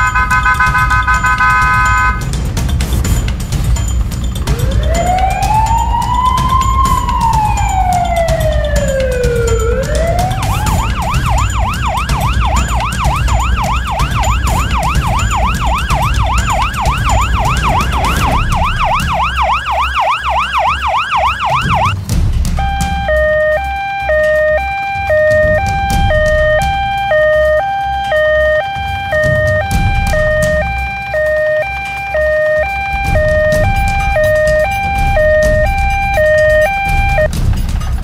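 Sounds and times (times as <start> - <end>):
siren wailing and yelping: 0.0 - 2.3, 4.5 - 22.0, 22.6 - 37.3
diesel tractor engine running: 0.0 - 38.0.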